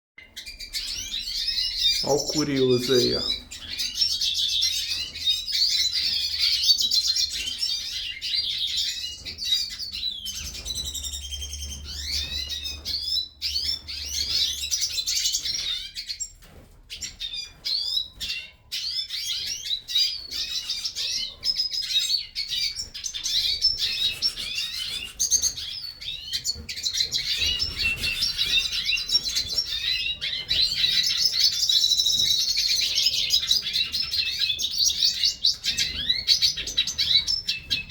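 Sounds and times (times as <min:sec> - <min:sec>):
birds twittering song: 0:00.2 - 0:37.9.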